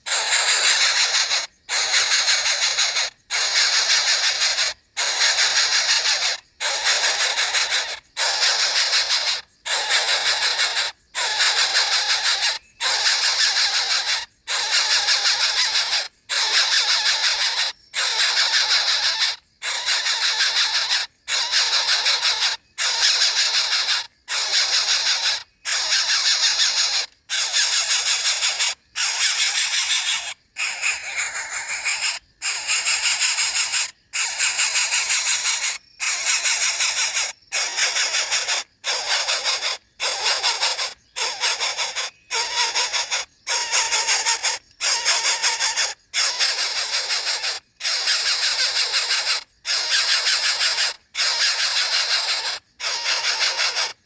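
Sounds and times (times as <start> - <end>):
nestling bird hissing begging calls: 0.0 - 54.0.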